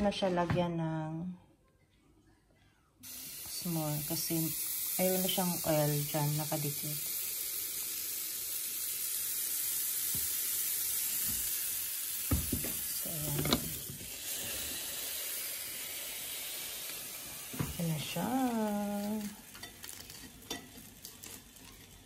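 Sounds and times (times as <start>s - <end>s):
waffle batter sizzling: 3.0s - 22.0s.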